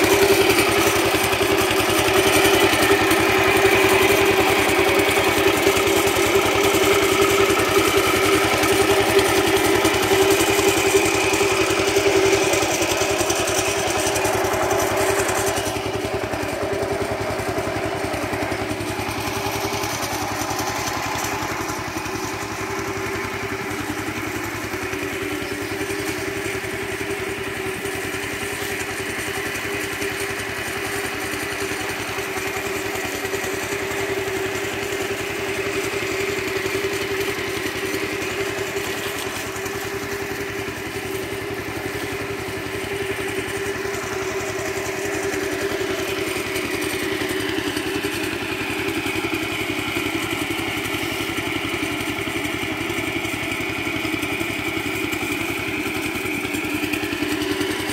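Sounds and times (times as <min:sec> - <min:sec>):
engine-driven water pump running: 0:00.0 - 0:57.9.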